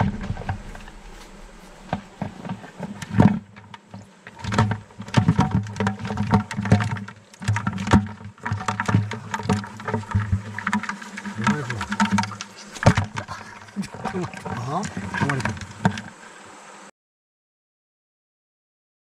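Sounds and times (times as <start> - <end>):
low hum: 0.0 - 15.8
crab legs scrabbling on plastic: 0.0 - 16.2
hand moving in plastic bucket: 0.0 - 16.2.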